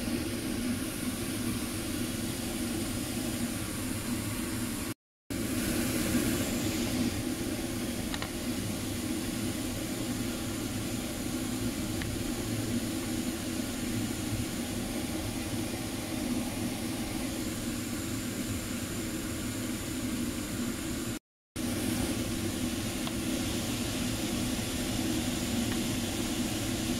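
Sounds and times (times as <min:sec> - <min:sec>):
whirring hum with hiss: 0:00.0 - 0:26.9.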